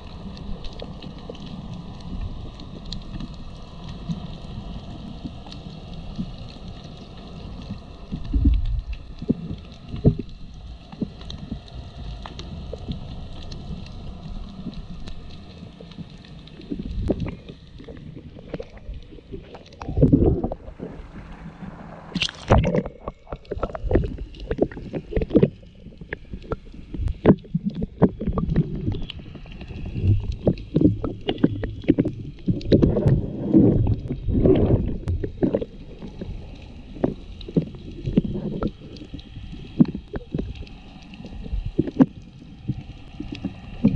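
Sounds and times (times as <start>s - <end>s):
sharp underwater clicks and crackles: 0.0s - 43.9s
underwater rumbling of water: 0.0s - 43.9s.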